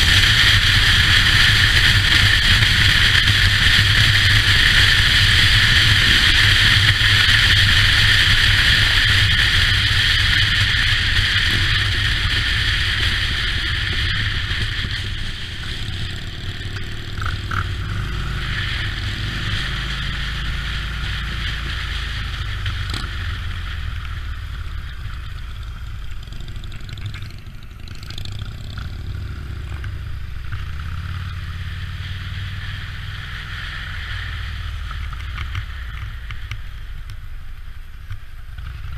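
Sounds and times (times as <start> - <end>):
motorcycle engine running: 0.0 - 38.9
wind rush on camera: 0.0 - 38.9.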